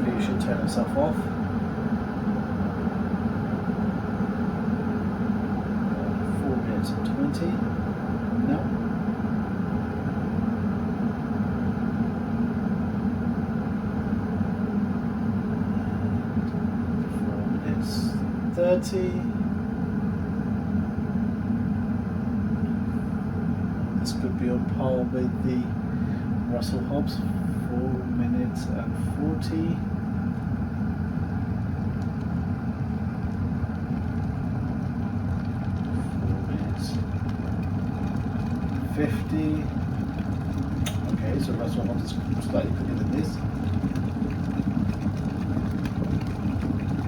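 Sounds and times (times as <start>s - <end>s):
kettle boiling: 0.0s - 47.0s.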